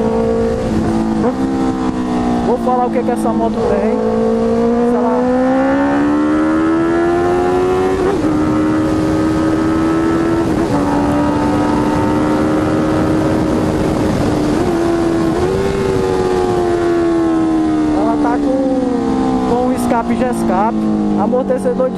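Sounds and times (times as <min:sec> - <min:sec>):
motorcycle engine running: 0:00.0 - 0:21.9
rushing wind: 0:00.0 - 0:21.9.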